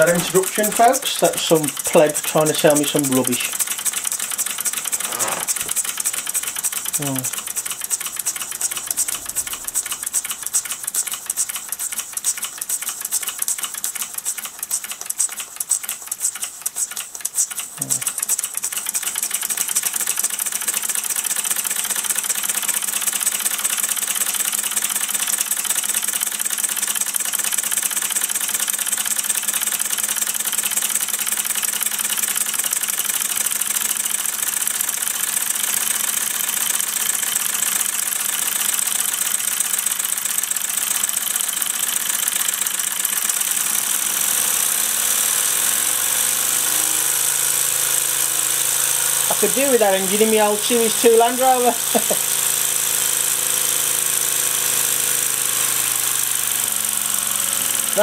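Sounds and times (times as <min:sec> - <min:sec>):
model steam engine ticking: 0:00.0 - 0:58.0.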